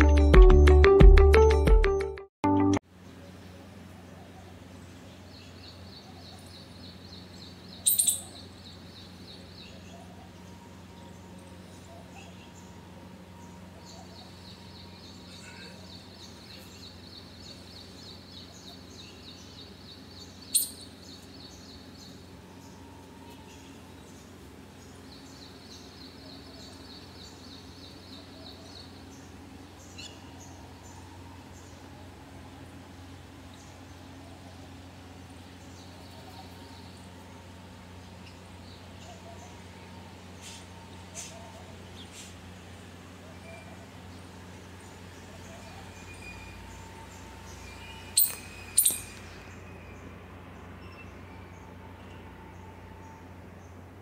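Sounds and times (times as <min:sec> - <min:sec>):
steady low hum: 0:02.9 - 0:54.0
birds chirping: 0:03.1 - 0:51.8.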